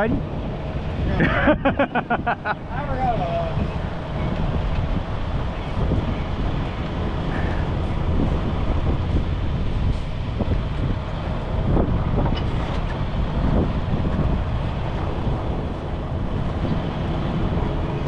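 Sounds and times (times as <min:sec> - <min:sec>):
diesel truck engine running: 0:00.0 - 0:18.0
wind buffeting microphone: 0:00.0 - 0:18.0.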